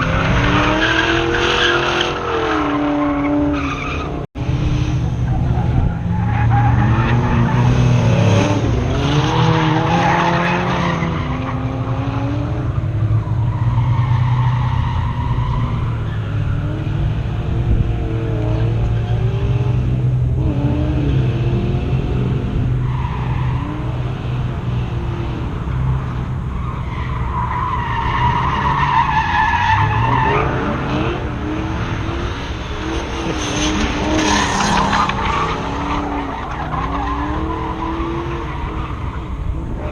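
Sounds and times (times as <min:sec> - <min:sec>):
car engine revving: 0:00.0 - 0:39.9
tires squealing: 0:00.0 - 0:39.9.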